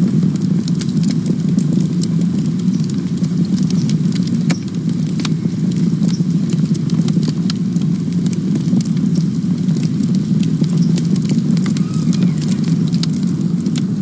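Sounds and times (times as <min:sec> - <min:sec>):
campfire flames rumbling: 0:00.0 - 0:14.0
fire crackling and popping: 0:00.0 - 0:14.0.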